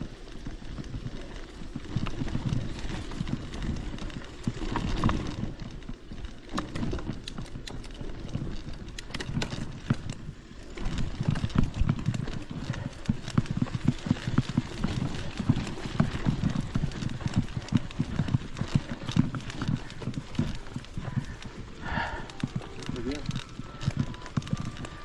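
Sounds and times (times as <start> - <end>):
footsteps on a trail: 0.0 - 25.0.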